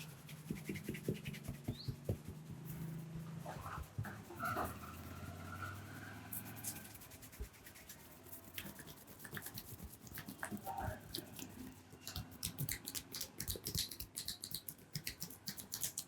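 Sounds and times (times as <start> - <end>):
hands rubbing through hair: 0.0 - 16.0.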